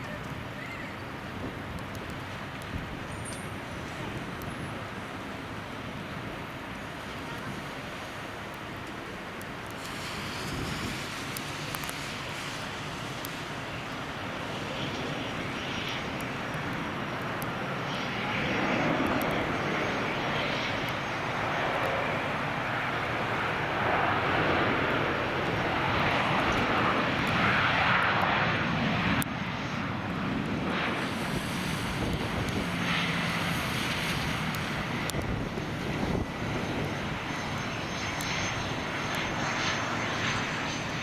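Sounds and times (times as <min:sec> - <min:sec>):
jet engines landing: 0:00.0 - 0:41.0.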